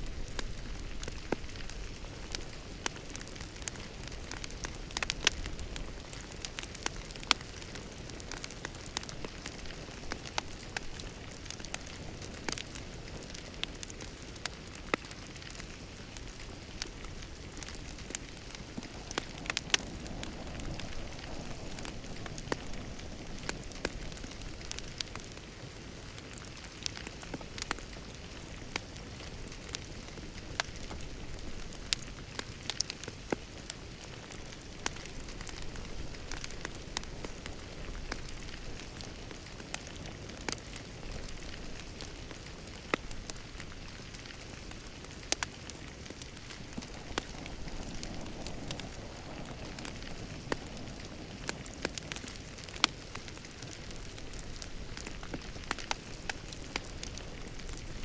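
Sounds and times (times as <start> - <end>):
low hiss of burning: 0.0 - 58.0
wood fire crackling: 0.0 - 58.0.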